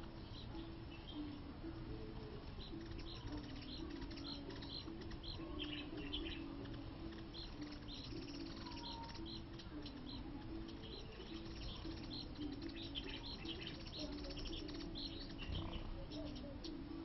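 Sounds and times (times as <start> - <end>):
dove cooing: 0.0 - 17.0
small birds chirping: 0.0 - 17.0.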